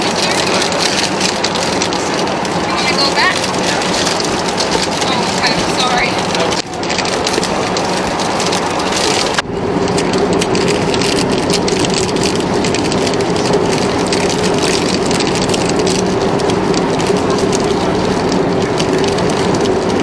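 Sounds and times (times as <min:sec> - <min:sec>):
airplane cabin roar: 0:00.0 - 0:20.0
plastic snack wrapper crinkling: 0:00.0 - 0:20.0.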